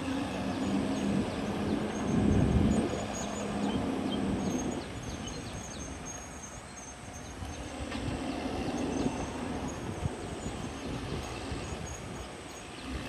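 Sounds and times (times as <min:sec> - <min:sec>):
high chirps of birds or insects: 0:00.0 - 0:13.0.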